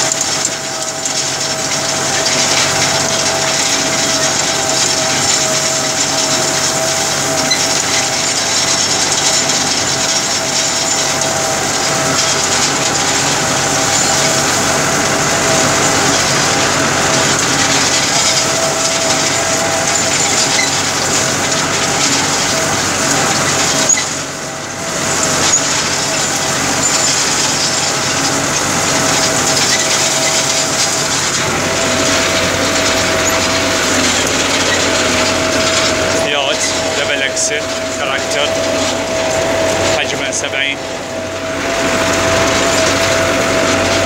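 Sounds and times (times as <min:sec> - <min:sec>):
hay rake working: 0:00.0 - 0:44.0
steady whine: 0:00.0 - 0:44.0
tractor engine running: 0:00.0 - 0:44.0.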